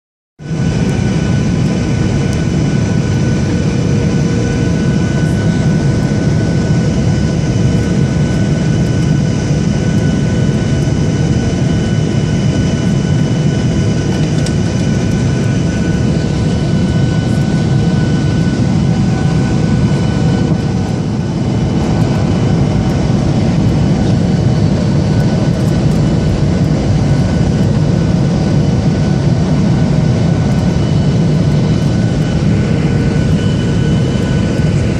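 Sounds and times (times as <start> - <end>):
jet engines running: 0.4 - 34.9
steady whining tones: 0.5 - 34.9.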